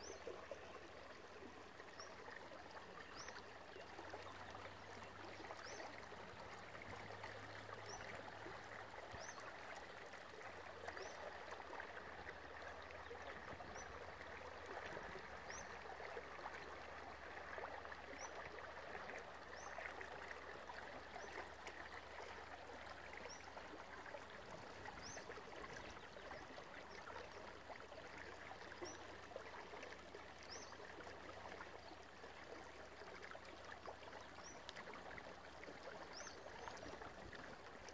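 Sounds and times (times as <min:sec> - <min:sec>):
creek water flowing: 0:00.0 - 0:37.9.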